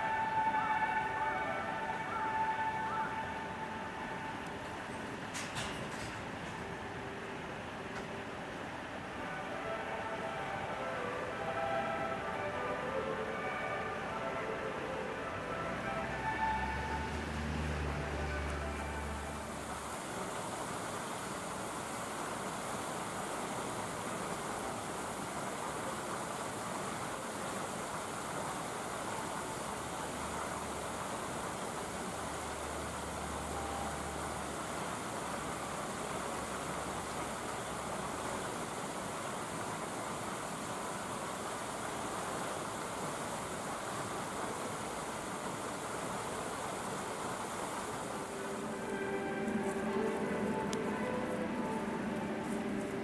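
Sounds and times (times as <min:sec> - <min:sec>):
steady rushing background noise: 0:00.0 - 0:53.0.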